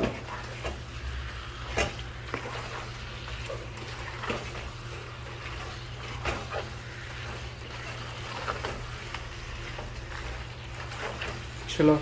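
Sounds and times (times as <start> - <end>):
food squishing and scraping in pot: 0.0 - 12.0.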